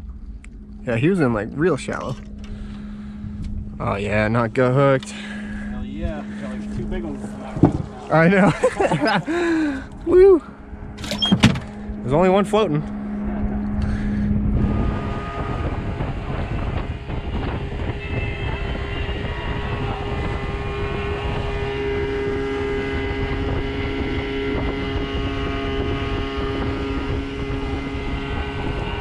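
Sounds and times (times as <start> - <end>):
outboard motor running: 0.0 - 29.0
wind buffeting microphone: 0.0 - 29.0.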